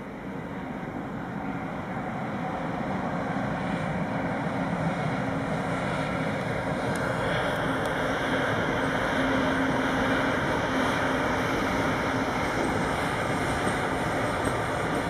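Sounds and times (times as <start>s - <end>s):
electric locomotive hum: 0.0s - 15.0s
wheel-on-rail rumble: 0.0s - 15.0s.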